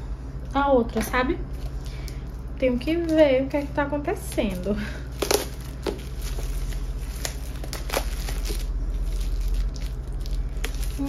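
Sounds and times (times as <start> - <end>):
steady low hum: 0.0 - 11.0
plastic shrink wrap crinkling: 1.6 - 11.0.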